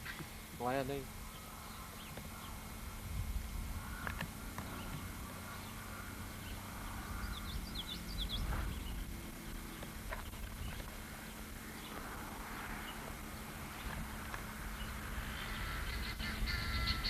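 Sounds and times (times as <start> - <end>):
bird chirping: 0.0 - 2.8, 3.8 - 12.0, 12.6 - 17.0
wind rumble on microphone: 0.0 - 17.0.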